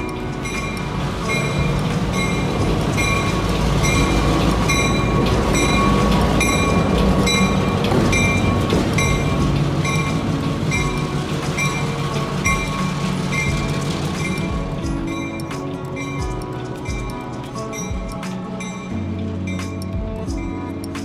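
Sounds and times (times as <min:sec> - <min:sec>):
regular ringing pulse: 0:00.0 - 0:20.7
diesel locomotive engine passing: 0:00.0 - 0:20.9.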